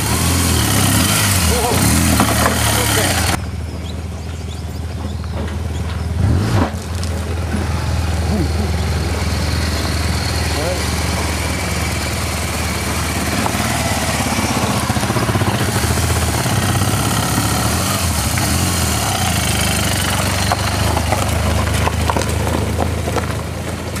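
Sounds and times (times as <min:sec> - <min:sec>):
motorcycle engine running: 0:00.0 - 0:06.2, 0:06.8 - 0:24.0.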